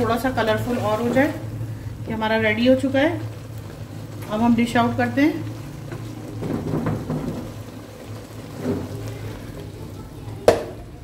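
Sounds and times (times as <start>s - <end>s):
soft crackling sizzle: 0.0s - 11.0s.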